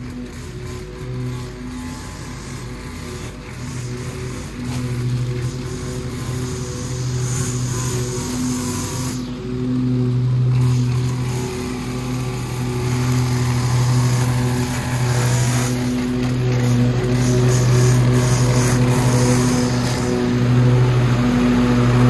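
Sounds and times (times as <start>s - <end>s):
string trimmer engine running: 0.0s - 22.0s.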